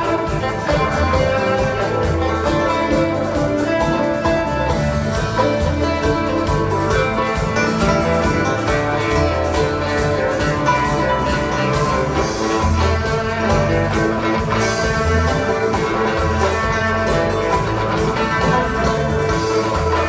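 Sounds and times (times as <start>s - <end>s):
acoustic guitar: 0.0s - 20.0s
banjo: 0.0s - 20.0s
drum kit: 0.0s - 20.0s
electric bass: 0.0s - 20.0s
fiddle: 0.0s - 20.0s.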